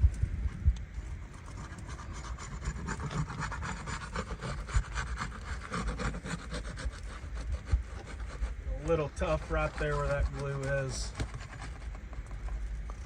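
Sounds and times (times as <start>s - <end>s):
tool scraping under shingles: 1.0s - 13.0s.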